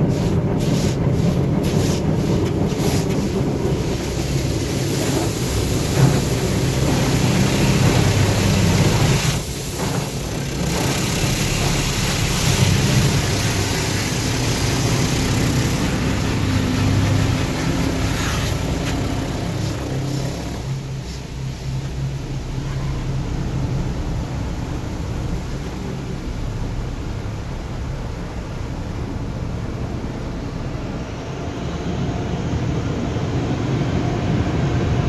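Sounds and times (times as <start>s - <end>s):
water spraying over a car: 0.0s - 31.1s
car wash machinery humming: 0.0s - 35.0s.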